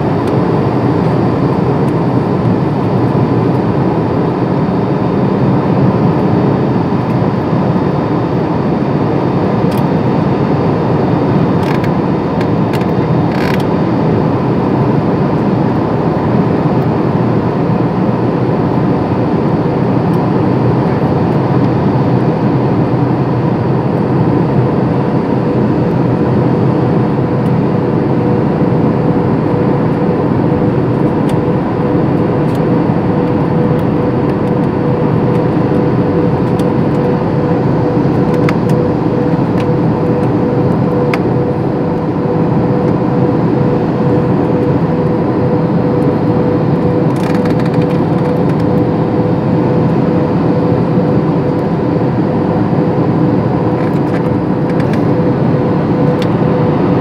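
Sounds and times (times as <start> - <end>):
jet engines and rushing air: 0.0 - 57.0
steady hum: 0.0 - 57.0.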